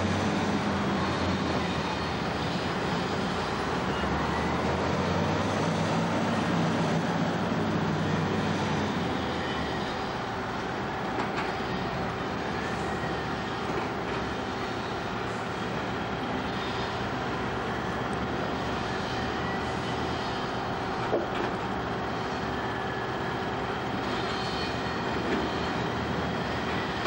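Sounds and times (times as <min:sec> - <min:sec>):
diesel engine running hard: 0:00.0 - 0:27.0.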